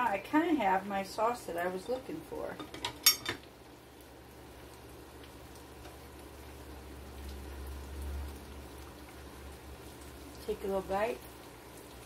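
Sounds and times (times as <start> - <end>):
sauce simmering in a skillet: 0.0 - 12.0.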